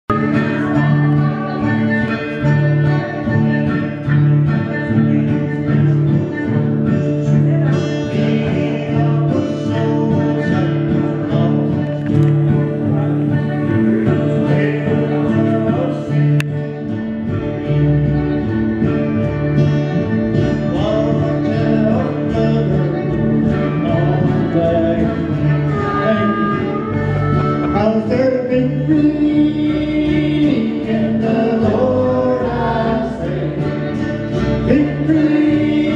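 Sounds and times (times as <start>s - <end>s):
people singing: 0.1s - 17.9s, 19.9s - 35.9s
acoustic guitars strumming: 0.1s - 35.9s.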